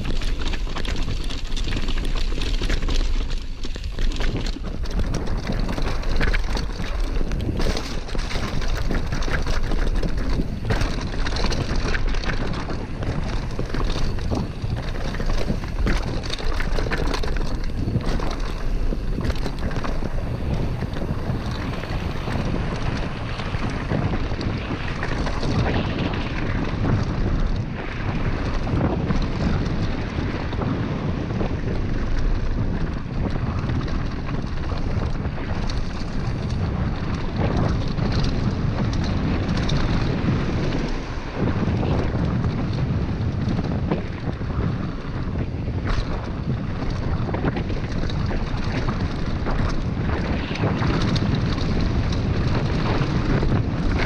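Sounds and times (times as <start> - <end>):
bike knocking and rattling: 0.0 - 54.0
tyres rushing on dirt and gravel: 0.0 - 54.0
wind blasting over microphone: 0.0 - 54.0.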